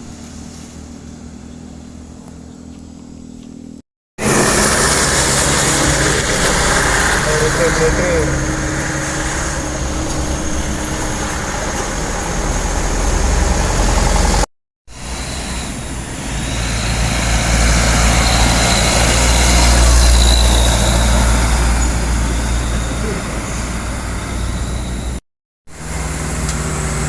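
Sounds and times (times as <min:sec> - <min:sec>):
heavy truck engine under load: 0:00.0 - 0:27.0.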